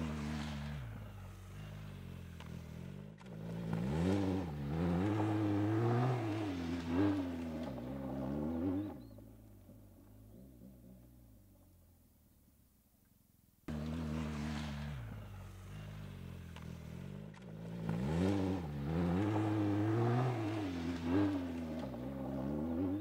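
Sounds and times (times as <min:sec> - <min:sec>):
motorcycle engine revving: 0:00.0 - 0:11.8, 0:13.7 - 0:23.0.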